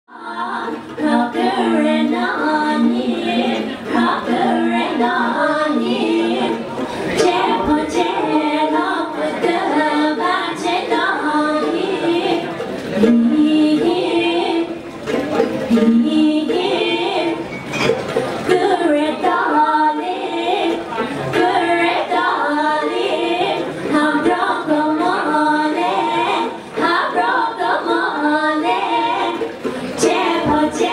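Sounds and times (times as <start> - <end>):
voices singing a cappella: 0.1 - 17.5, 18.4 - 30.9.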